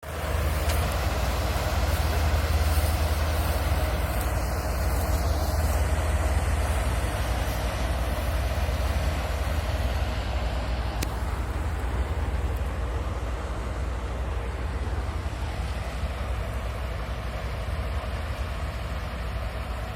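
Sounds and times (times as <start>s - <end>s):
combine harvester diesel engine droning: 0.0s - 19.9s.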